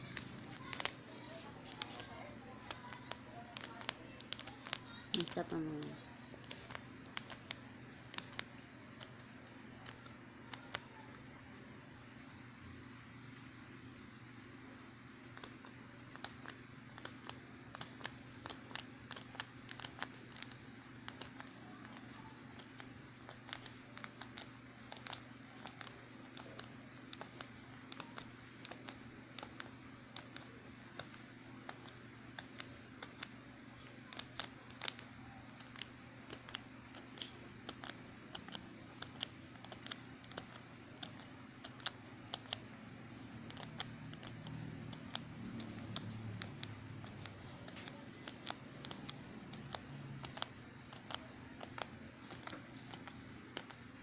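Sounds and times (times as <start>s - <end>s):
needle pricking paper ticks: 0.0s - 11.1s, 15.2s - 54.0s
faint low hum: 0.0s - 54.0s.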